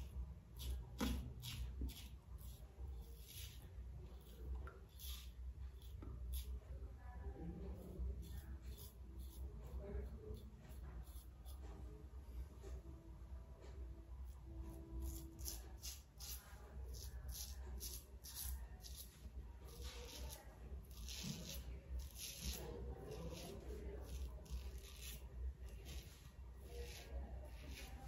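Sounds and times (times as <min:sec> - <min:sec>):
razor scraping stubble: 0:00.0 - 0:06.7, 0:07.4 - 0:11.9, 0:14.2 - 0:28.0.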